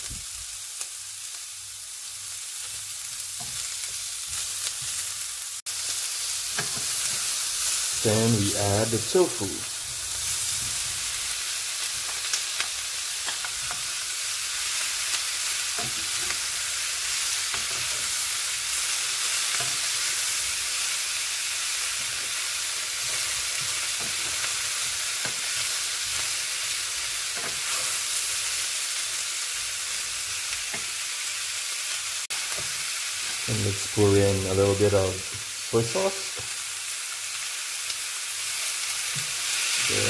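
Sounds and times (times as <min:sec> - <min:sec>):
food sizzling in oil: 0:00.0 - 0:40.0.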